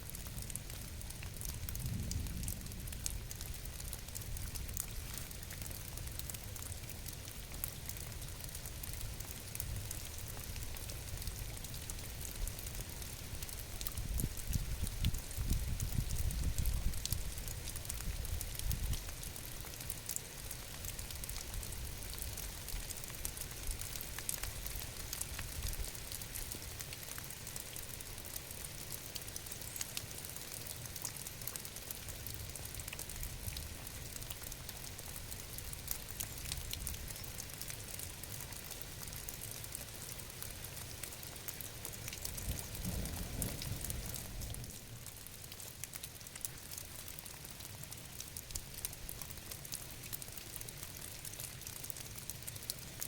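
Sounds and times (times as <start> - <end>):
steady rain pattering: 0.0 - 53.0.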